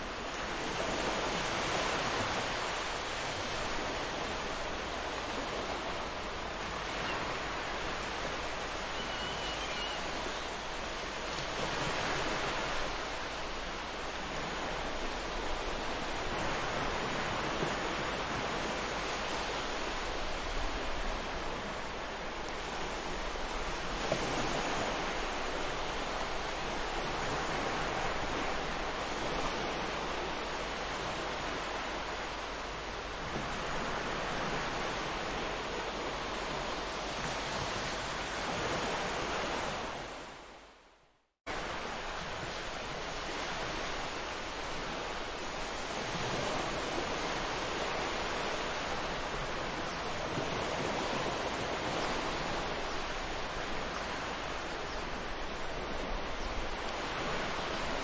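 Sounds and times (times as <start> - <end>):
sea surf washing onto beach: 0.0 - 40.5, 41.5 - 58.0.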